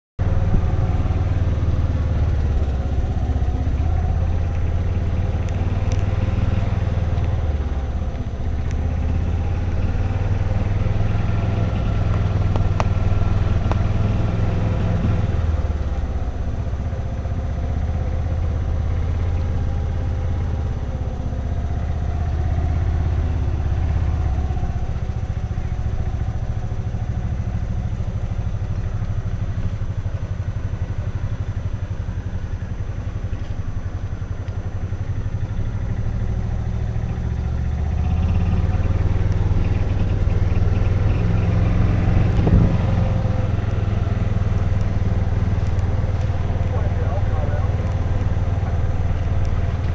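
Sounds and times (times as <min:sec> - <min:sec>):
golf cart motor drone: 0:00.2 - 0:49.9.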